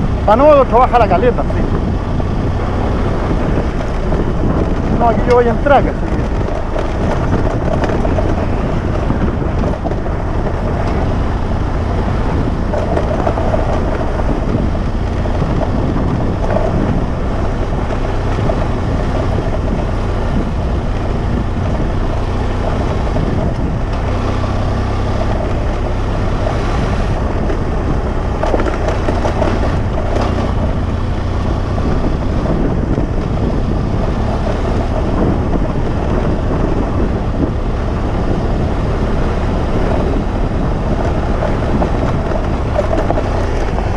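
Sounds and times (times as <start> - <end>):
vehicle engine and road noise: 0.0 - 43.9
wind on microphone: 0.0 - 43.9.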